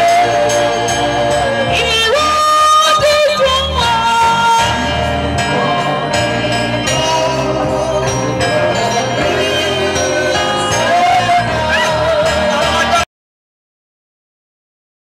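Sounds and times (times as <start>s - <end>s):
gospel group singing with band: 0.0s - 13.0s.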